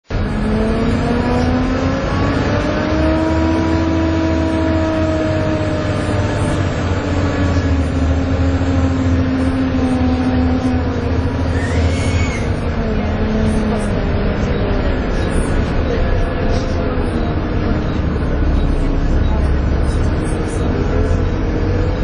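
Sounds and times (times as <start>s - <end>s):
bus engine accelerating with whine: 0.0s - 22.0s.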